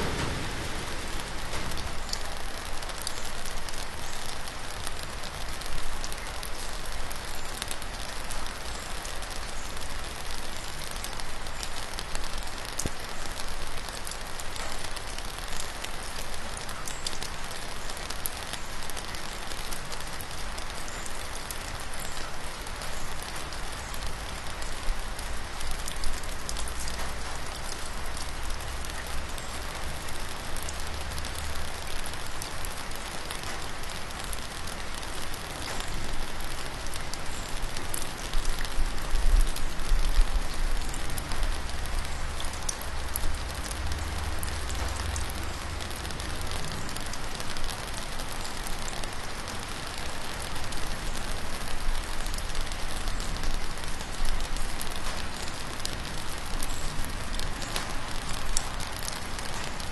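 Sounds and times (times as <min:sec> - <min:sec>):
raindrops pattering: 0:00.0 - 0:59.9
steady rain hiss: 0:00.0 - 0:59.9.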